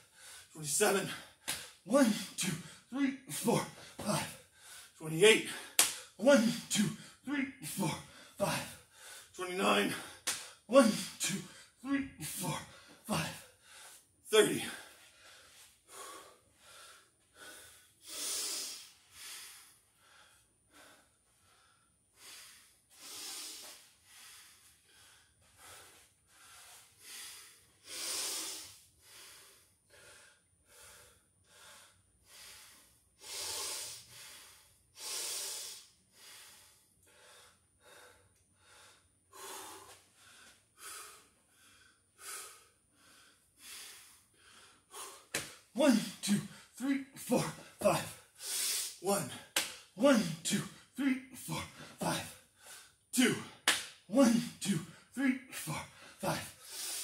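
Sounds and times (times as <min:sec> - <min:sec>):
man breathing hard: 0:00.0 - 0:57.0.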